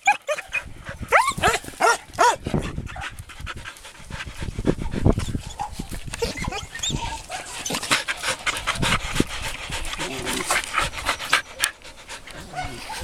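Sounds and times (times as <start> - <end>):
dog panting: 0.3 - 13.0.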